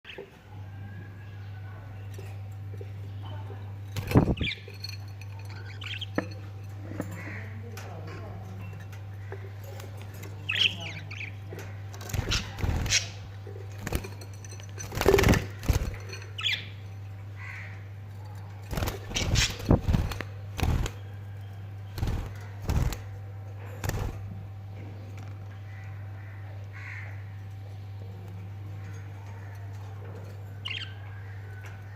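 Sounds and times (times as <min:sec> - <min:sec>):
steady low hum: 0:00.1 - 0:31.9.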